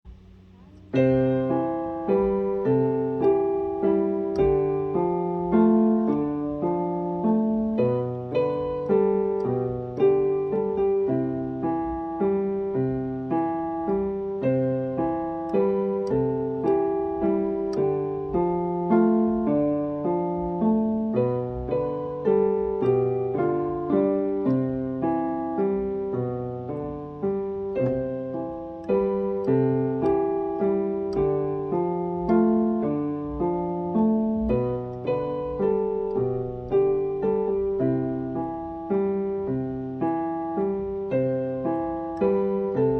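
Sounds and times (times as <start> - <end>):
gentle piano keyboard melody: 0.1 - 42.9.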